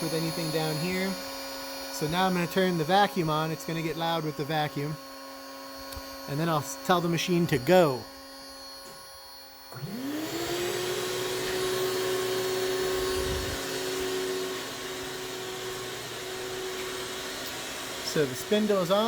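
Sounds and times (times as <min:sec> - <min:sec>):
spindle hum: 0:00.0 - 0:19.0
vacuum motor whine: 0:00.0 - 0:19.0.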